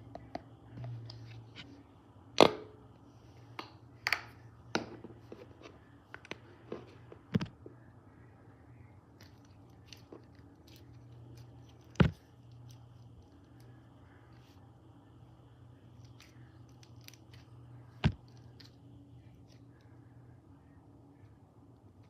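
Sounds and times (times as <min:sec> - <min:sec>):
faint steady low hum: 0:00.0 - 0:22.0.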